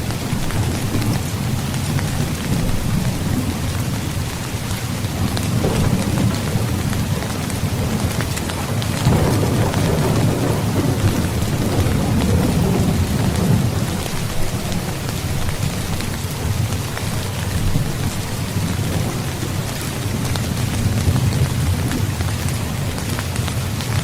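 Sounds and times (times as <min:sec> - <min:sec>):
rain falling: 0:00.0 - 0:24.0
thunder rolling: 0:00.0 - 0:24.0.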